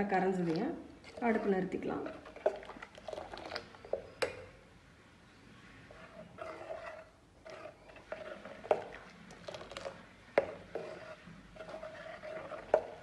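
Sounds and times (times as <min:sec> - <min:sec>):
ladle scraping steel pot: 0:00.0 - 0:04.5, 0:05.8 - 0:13.0.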